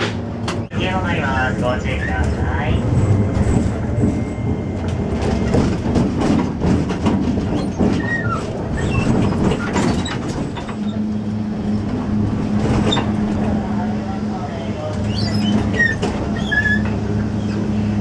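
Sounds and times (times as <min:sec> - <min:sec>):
streetcar rumbling on tracks: 0:00.0 - 0:18.0.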